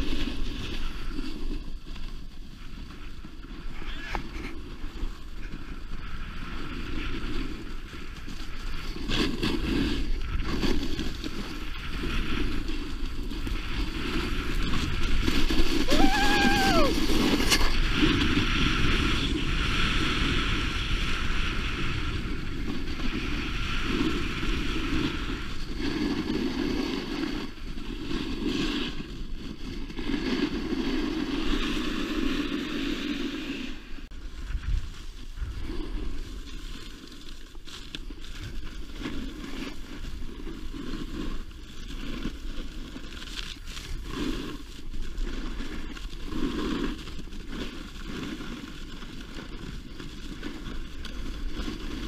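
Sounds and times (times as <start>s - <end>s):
snowboard scraping over snow: 0.0s - 52.0s
wind on microphone: 0.0s - 52.0s.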